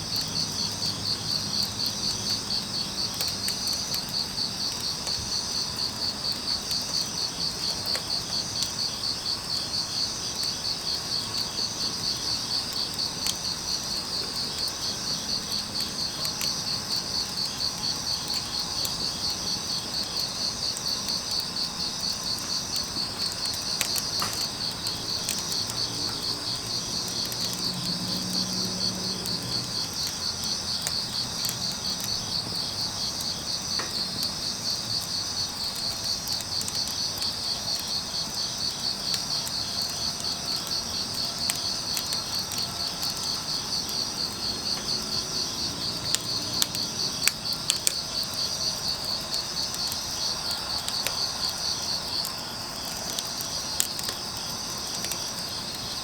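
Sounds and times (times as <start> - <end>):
crickets chirping: 0.0 - 56.0
firewood crackling: 0.0 - 56.0.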